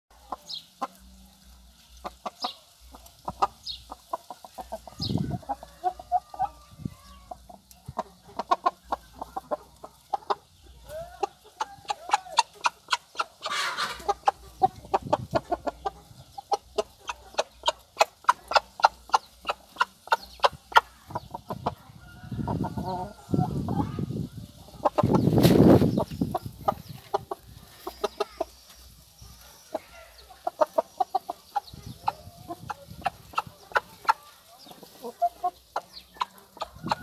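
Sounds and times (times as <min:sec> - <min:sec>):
cockerel clucking: 0:02.0 - 0:24.1, 0:24.7 - 0:28.8, 0:29.5 - 0:37.0.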